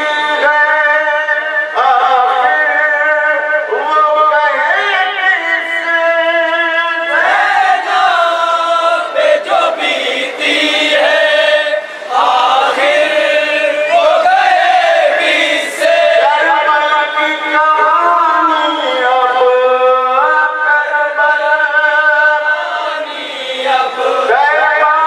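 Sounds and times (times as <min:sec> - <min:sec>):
men chanting a lament: 0:00.0 - 0:25.0.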